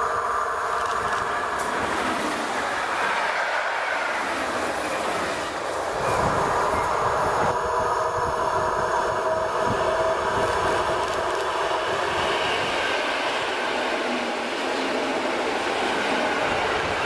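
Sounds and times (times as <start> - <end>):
passing train: 0.0 - 17.0
train wheels rumbling on rail: 0.0 - 17.0.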